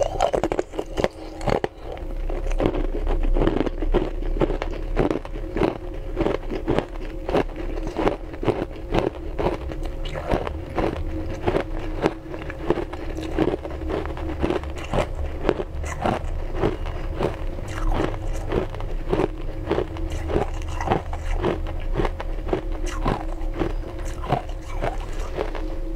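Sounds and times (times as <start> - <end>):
ice crunching between teeth: 0.0 - 25.8
faint steady hum: 0.0 - 25.9.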